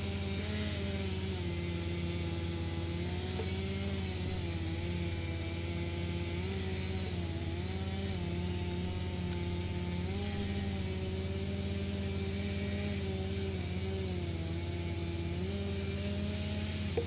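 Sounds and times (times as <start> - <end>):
wood chipper engine running: 0.0 - 17.0.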